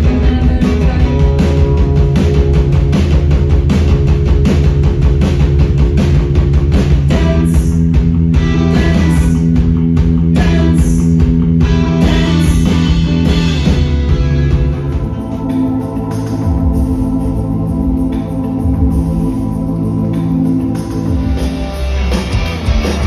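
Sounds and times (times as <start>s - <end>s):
rock band electric guitar: 0.0s - 23.0s
steady drum beat: 0.0s - 23.0s.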